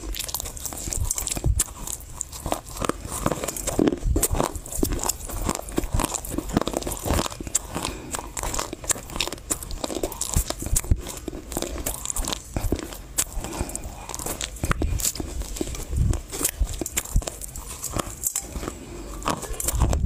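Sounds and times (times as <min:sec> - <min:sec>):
chewing crunches: 0:00.0 - 0:20.0.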